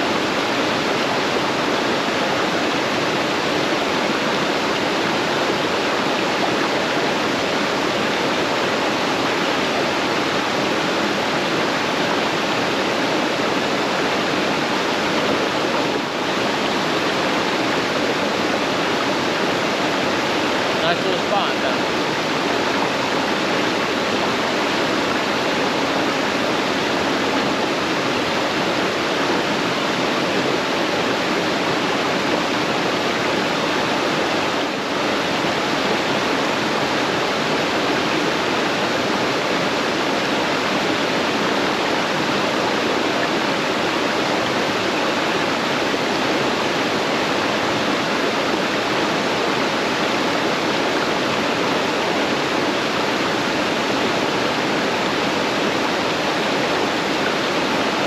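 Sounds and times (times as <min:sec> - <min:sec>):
creek water flowing: 0:00.0 - 0:58.0.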